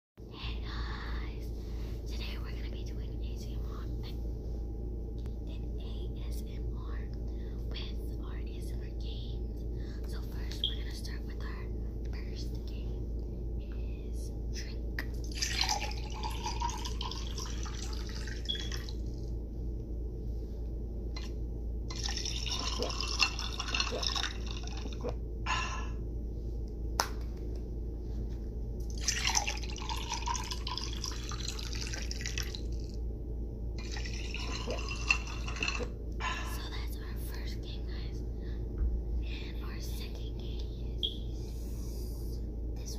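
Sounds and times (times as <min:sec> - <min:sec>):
low hum: 0:00.2 - 0:42.9.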